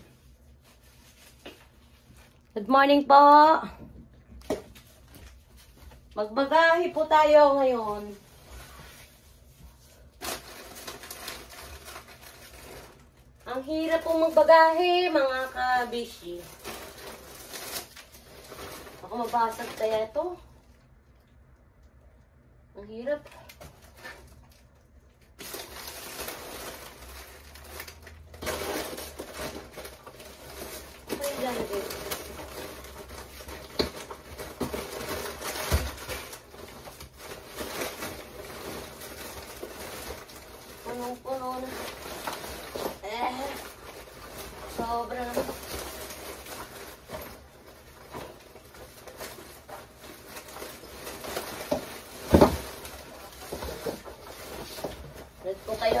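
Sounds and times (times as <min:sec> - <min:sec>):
items rustling in cardboard box: 0:00.0 - 0:03.5, 0:04.4 - 0:20.5, 0:23.0 - 0:56.0.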